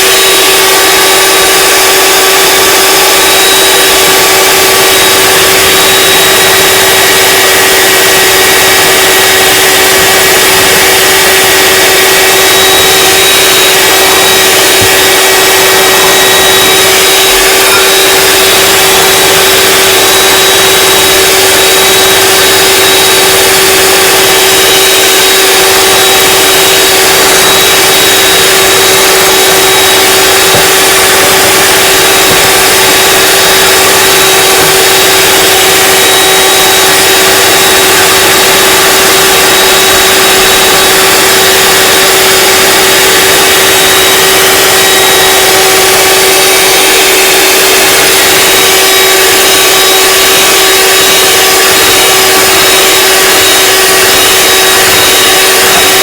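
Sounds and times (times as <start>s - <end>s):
electric mixer humming: 0.0s - 56.0s.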